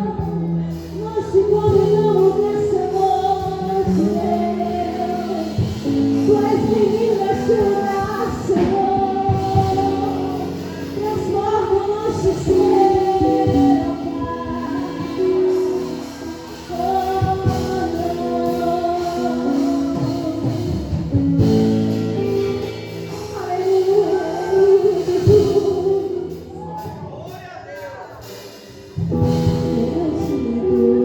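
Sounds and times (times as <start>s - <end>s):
woman singing: 0.0s - 27.0s, 29.1s - 31.0s
sustained keyboard accompaniment: 0.0s - 31.0s.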